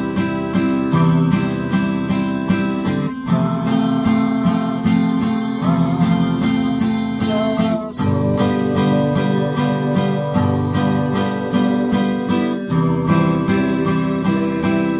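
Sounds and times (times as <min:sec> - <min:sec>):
acoustic guitar strummed waltz: 0:00.0 - 0:14.9.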